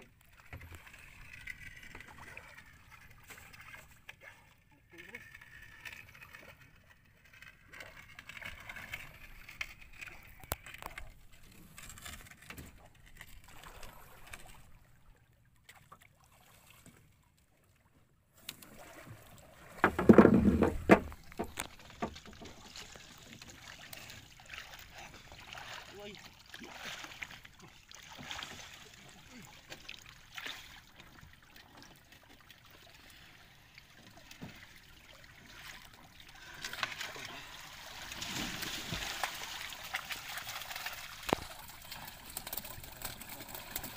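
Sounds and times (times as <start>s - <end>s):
water lapping around boats: 0.0s - 43.9s.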